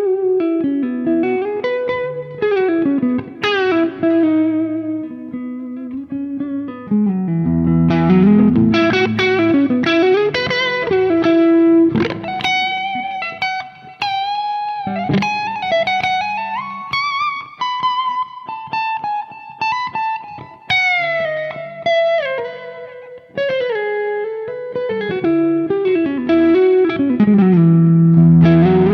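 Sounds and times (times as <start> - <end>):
electric guitar through an amp: 0.0 - 28.9.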